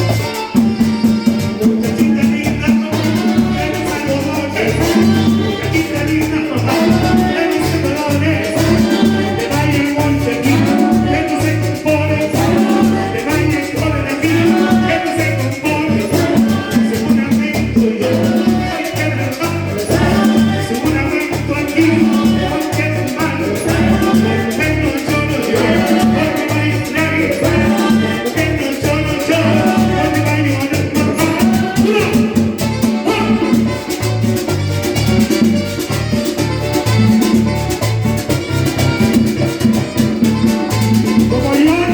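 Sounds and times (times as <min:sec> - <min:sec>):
latin dance band music: 0:00.0 - 0:41.9
rhythmic bass line: 0:00.0 - 0:41.9.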